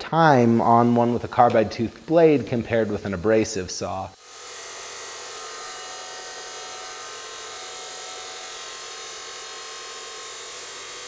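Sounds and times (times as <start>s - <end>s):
chop saws cutting steel: 0.4s - 3.4s, 4.1s - 11.0s.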